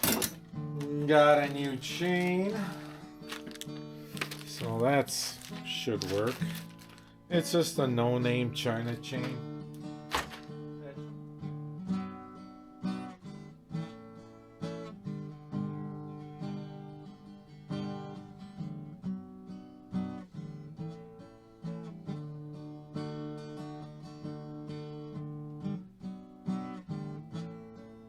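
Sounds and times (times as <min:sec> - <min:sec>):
acoustic guitar strumming chords: 0:00.0 - 0:28.0.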